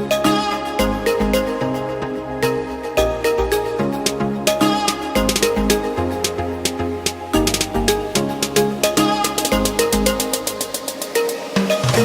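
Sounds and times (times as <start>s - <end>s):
electronic instrumental music: 0.0s - 12.0s.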